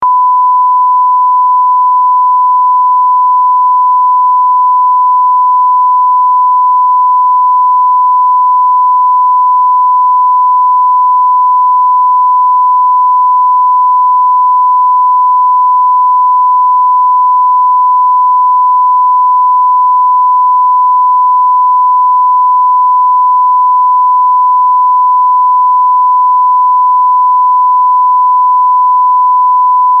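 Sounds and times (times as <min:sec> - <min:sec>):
steady sine tone bleep: 0:00.0 - 0:30.0.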